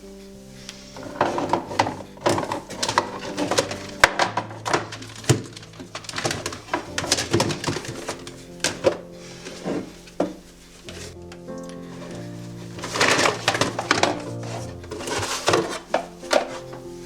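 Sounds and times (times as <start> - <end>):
small hard objects clattering: 0.8 - 17.0.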